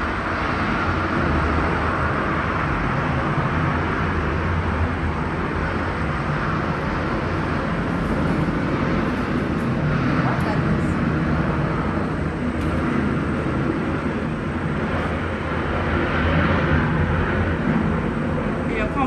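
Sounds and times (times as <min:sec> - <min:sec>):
jet aircraft rumble: 0:00.0 - 0:19.0.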